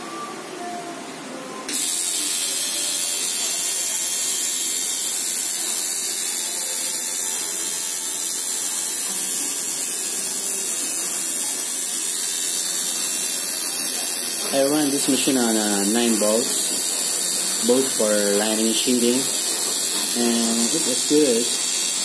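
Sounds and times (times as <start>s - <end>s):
tattoo machine buzzing: 1.7s - 22.0s.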